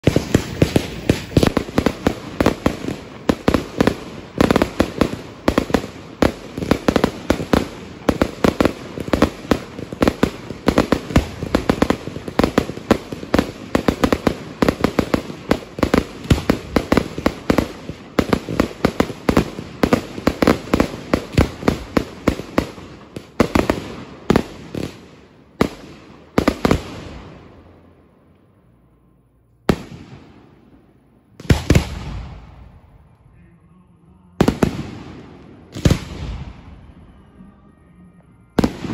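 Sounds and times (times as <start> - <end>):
fireworks bangs: 0.0 - 28.5, 29.6 - 38.9.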